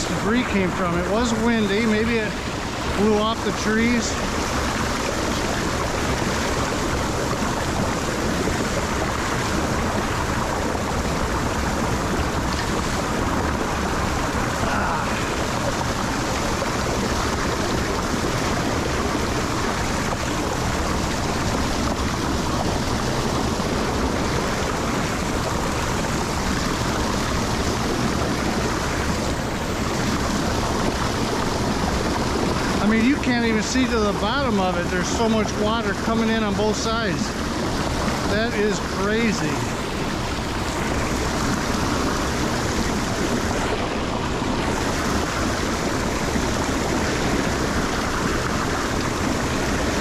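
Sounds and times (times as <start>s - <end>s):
water pouring into a drain: 0.0s - 50.0s.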